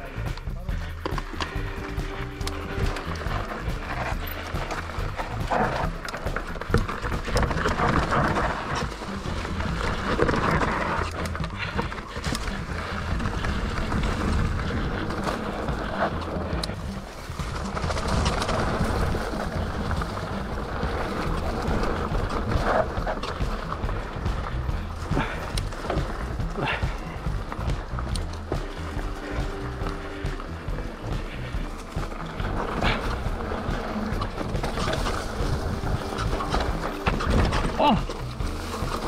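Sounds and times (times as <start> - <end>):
mountain bike rattling over rough ground: 0.0 - 39.0
wind rumbling on microphone: 1.8 - 39.0.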